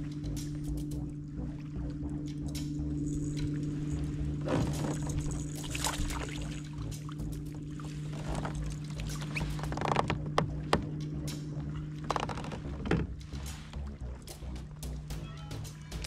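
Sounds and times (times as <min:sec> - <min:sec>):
steady low hum: 0:00.0 - 0:16.0
water splashing and sloshing: 0:00.0 - 0:16.0.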